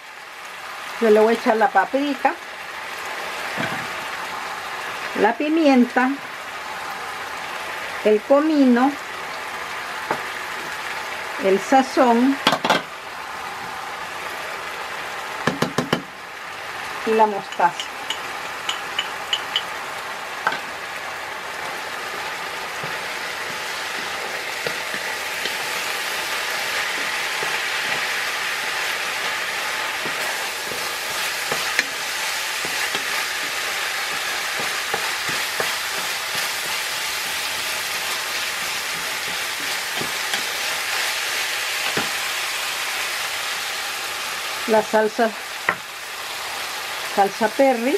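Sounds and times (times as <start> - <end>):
meat sizzling in a skillet: 0.0 - 47.9.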